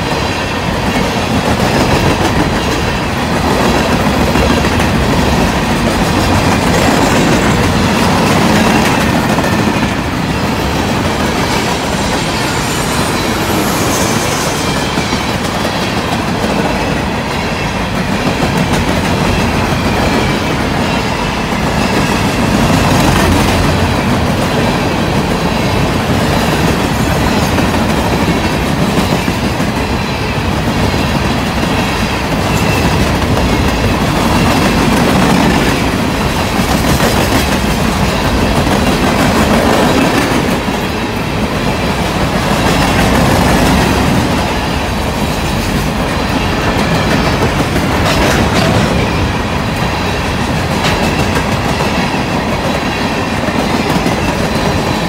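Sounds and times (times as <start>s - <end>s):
freight train wheels rumbling on rail: 0.0s - 55.0s
wheels clicking on rail joints: 0.0s - 55.0s.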